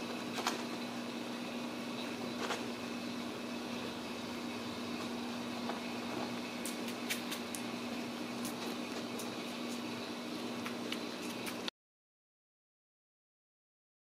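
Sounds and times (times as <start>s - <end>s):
room hum and hiss: 0.0s - 11.7s.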